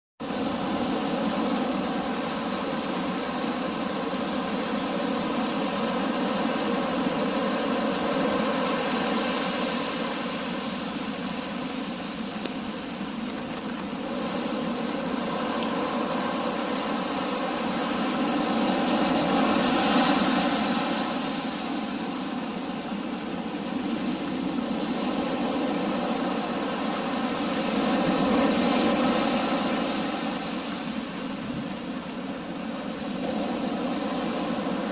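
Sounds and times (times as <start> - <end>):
surf of stormy sea: 0.2 - 34.9
wind: 0.2 - 34.9.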